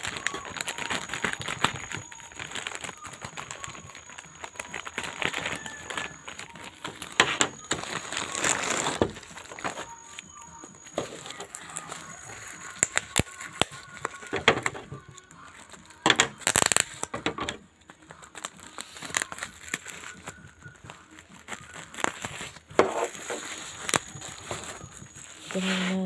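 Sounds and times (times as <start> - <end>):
bubble wrap crinkling: 0.0 - 26.0.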